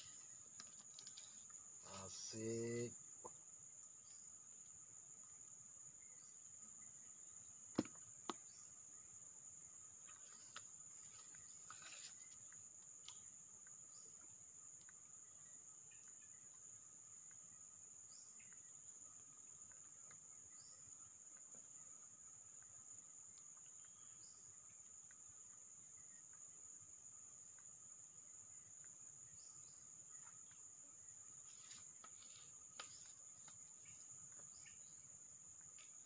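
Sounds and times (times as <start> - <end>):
forest insects droning: 0.0 - 36.0.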